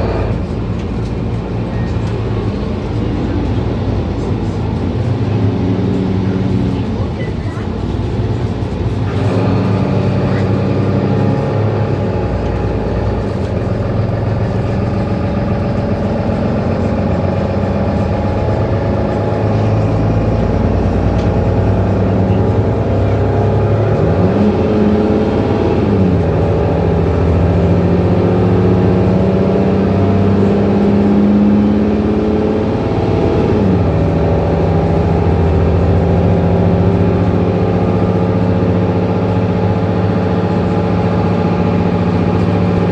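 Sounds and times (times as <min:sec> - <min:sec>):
bus engine running: 0:00.0 - 0:42.9.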